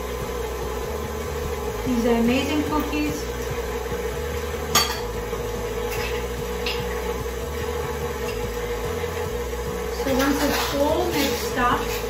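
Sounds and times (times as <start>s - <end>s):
stand mixer motor whining: 0.0s - 12.0s.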